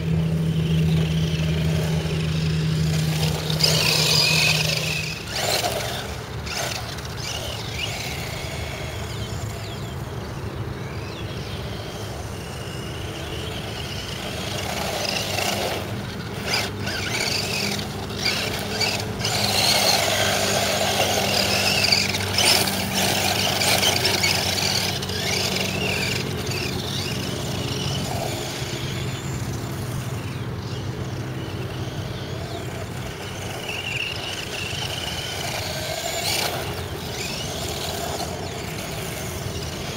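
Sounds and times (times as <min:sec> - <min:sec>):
toy car motor whining: 0:00.0 - 0:39.9.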